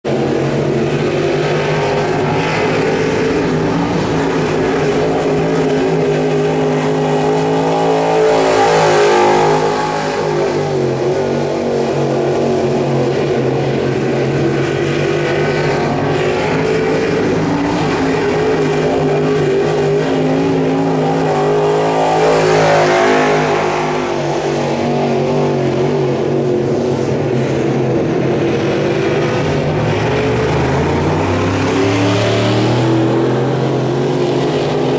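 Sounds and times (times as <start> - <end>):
race car engine passing: 0.0 - 34.9.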